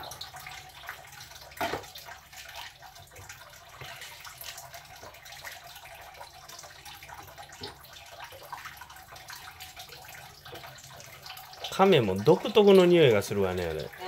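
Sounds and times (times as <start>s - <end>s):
tap water running into sink: 0.0s - 14.0s.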